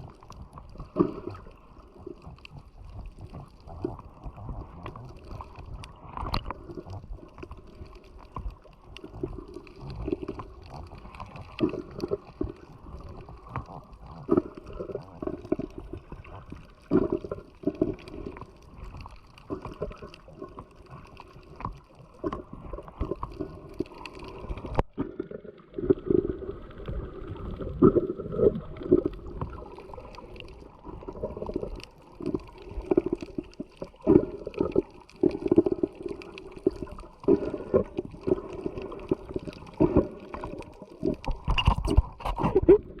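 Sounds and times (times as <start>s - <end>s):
sea water lapping and sloshing: 0.0s - 43.0s.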